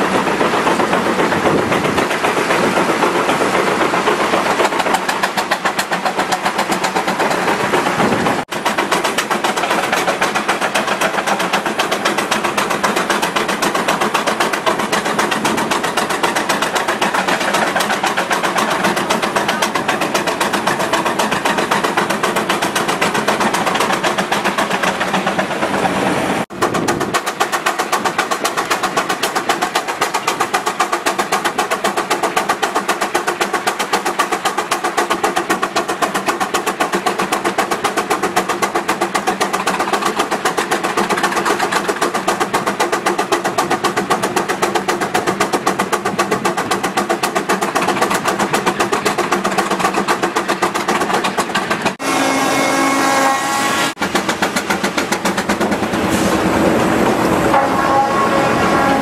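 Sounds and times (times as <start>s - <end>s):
second steam engine beat: 0.0s - 59.0s
steam engine exhaust chuff: 0.0s - 59.0s.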